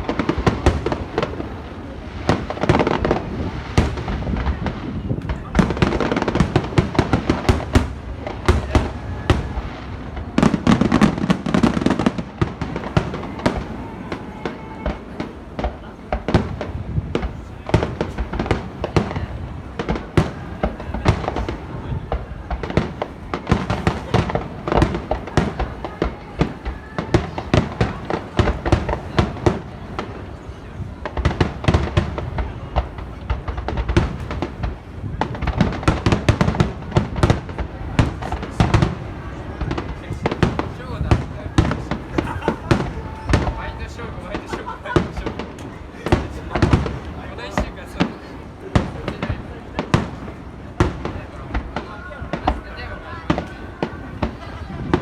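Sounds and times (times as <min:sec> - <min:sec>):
deep firework burst: 0:00.0 - 0:55.0
fireworks bursts and crackles: 0:00.0 - 0:55.0.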